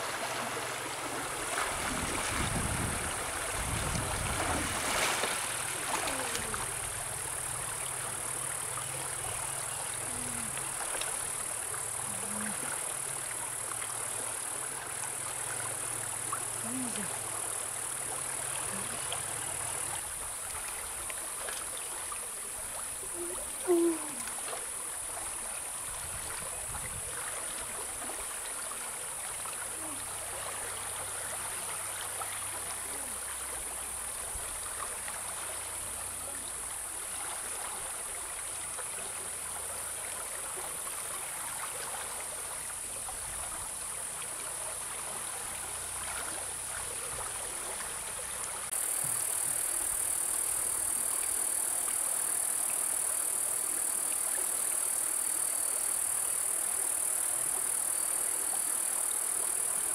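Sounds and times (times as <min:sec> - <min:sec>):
river water running over rocks: 0:00.0 - 0:59.9.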